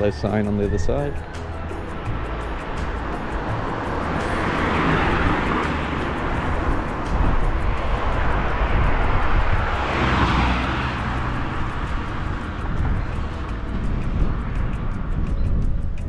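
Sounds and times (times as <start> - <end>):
motor vehicle passing: 0.0 - 16.0.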